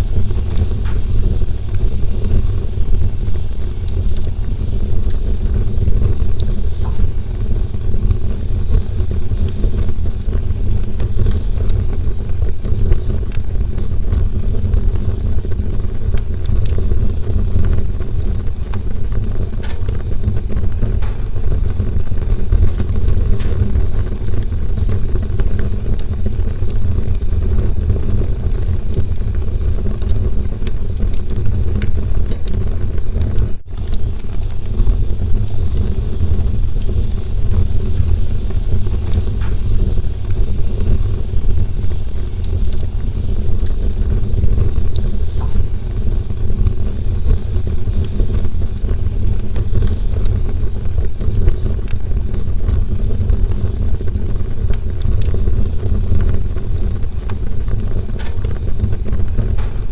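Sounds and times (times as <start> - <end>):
burning wood crackling: 0.0 - 59.9
campfire flames rumbling: 0.0 - 59.9.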